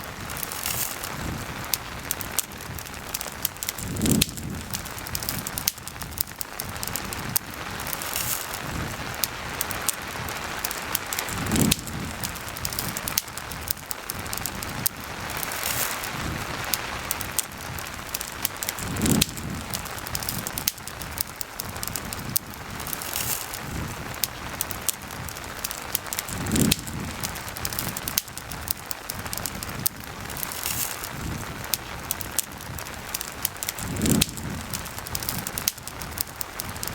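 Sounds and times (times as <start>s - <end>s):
campfire crackling: 0.0s - 36.9s
steady rain: 0.0s - 36.9s.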